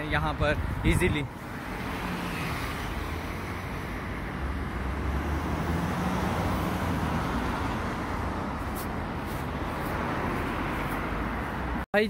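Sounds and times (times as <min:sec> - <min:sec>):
cars passing: 0:00.0 - 0:11.9
low rumble of passing vehicle: 0:01.4 - 0:11.8.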